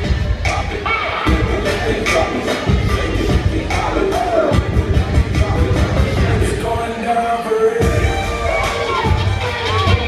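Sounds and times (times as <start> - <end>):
dance music with singing: 0.0 - 10.0.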